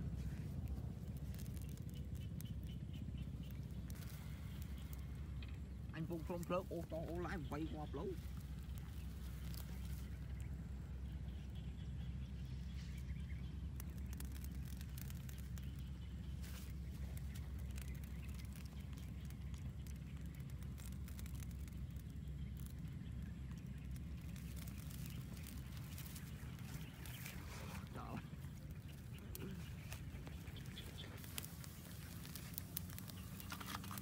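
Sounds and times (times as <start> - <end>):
light clicks and rustles: 0.0 - 11.4, 12.3 - 34.0
low rumble on microphone: 0.0 - 34.0.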